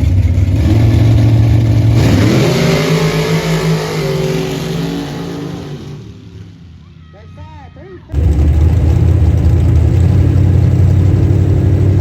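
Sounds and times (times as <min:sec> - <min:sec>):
truck engine accelerating: 0:00.0 - 0:06.7, 0:08.1 - 0:12.0.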